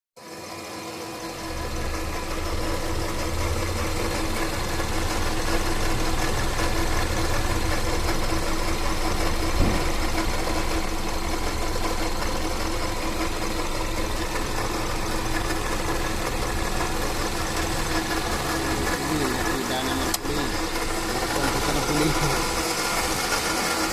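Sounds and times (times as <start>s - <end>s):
car engine idling: 0.2s - 23.9s.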